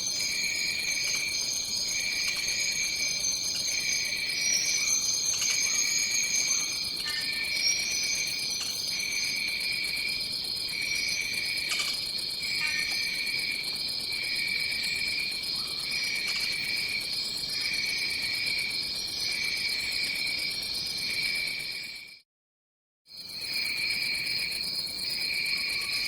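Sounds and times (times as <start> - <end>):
lower pulsing insect trill: 0.0 - 22.1, 23.1 - 26.0.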